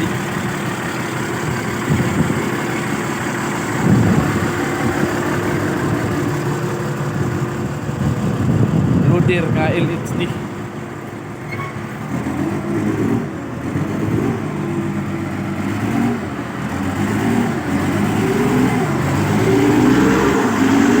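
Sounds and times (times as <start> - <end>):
loader engine revving: 0.0 - 21.0.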